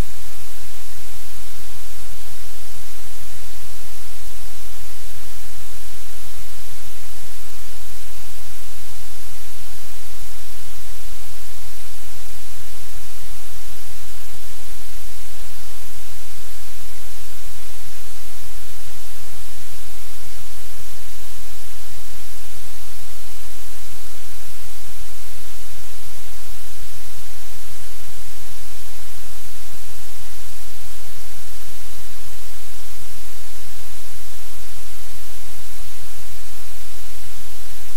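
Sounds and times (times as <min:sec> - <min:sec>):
static hiss: 0:00.0 - 0:37.9.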